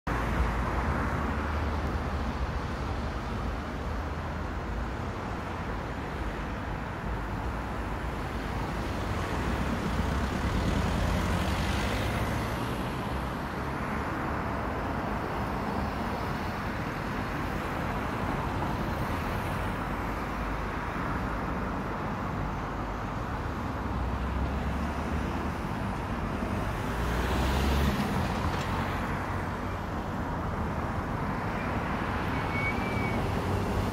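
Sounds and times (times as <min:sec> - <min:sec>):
road traffic hum: 0:00.0 - 0:33.9
vehicles passing close: 0:00.1 - 0:33.9.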